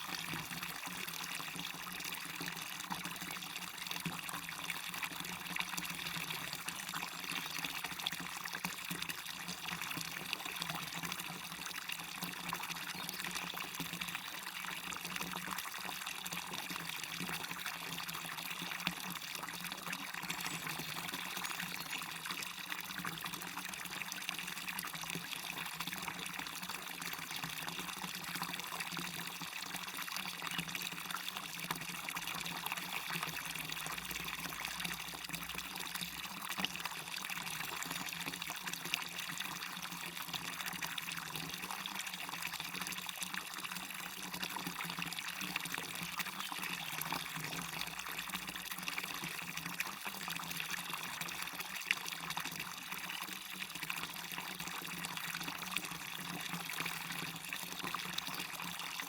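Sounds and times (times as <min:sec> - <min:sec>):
water pouring over small waterfall: 0:00.0 - 0:59.0.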